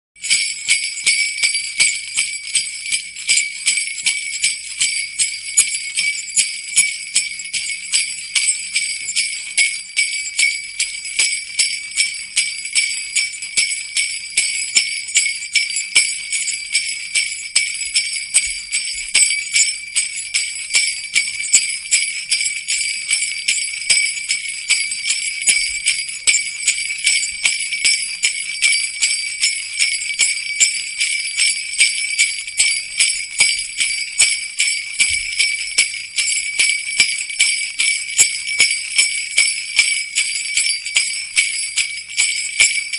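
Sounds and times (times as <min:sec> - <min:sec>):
jingle bells shaken: 0:00.2 - 0:42.9.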